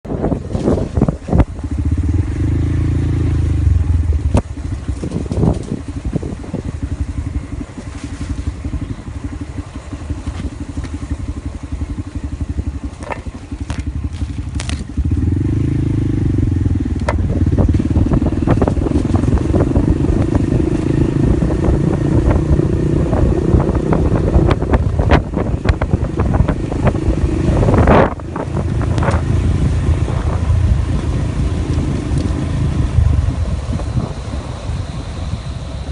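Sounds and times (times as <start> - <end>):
small motorcycle engine running: 0.1 - 35.9.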